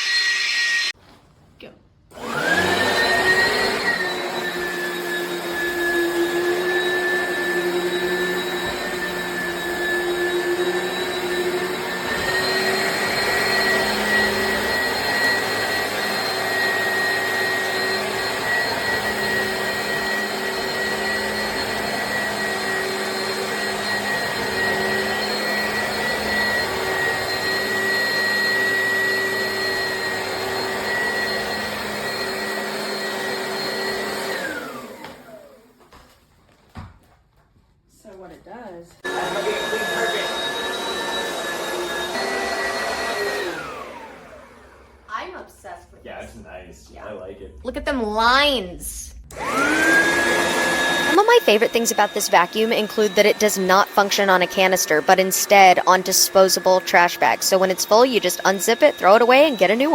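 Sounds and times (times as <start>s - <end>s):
upright vacuum cleaner running: 2.1s - 36.0s, 39.0s - 45.4s, 49.1s - 59.9s.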